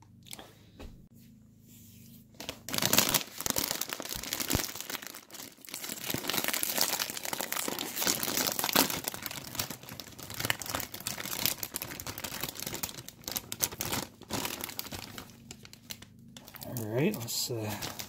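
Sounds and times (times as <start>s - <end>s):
chip bag crinkling: 2.4s - 18.0s.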